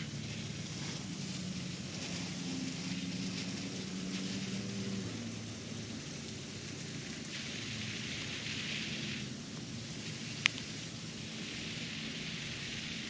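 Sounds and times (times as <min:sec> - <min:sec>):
water spraying from garden hose: 0:00.0 - 0:13.0.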